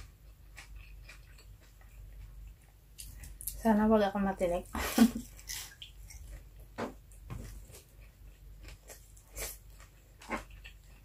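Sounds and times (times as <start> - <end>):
person chewing with wet smacks: 0.0 - 3.6, 5.2 - 11.0.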